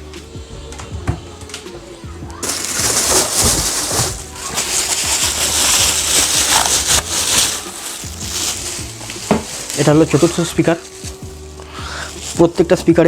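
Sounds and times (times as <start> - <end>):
background music: 0.0 - 13.0
packaging rustling and crinkling: 2.3 - 12.8.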